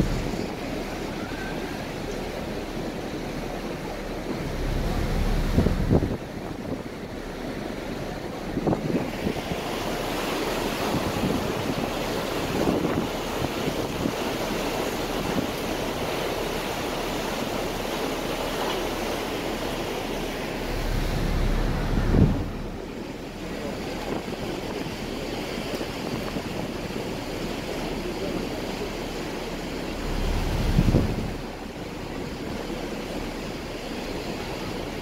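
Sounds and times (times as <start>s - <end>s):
wind buffeting microphone: 0.0s - 17.9s, 19.5s - 35.0s
water rushing past: 0.0s - 35.0s.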